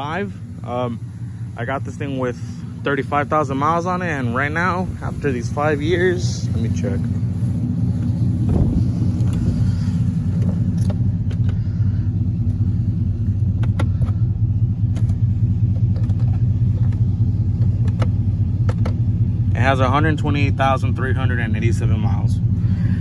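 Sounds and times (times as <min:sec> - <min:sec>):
engine idling with deep note: 0:00.0 - 0:23.0.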